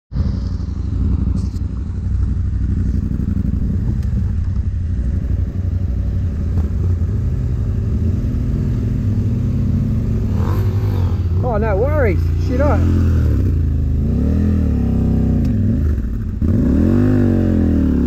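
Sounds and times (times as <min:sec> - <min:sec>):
dirt bike engine running: 0:00.1 - 0:18.0.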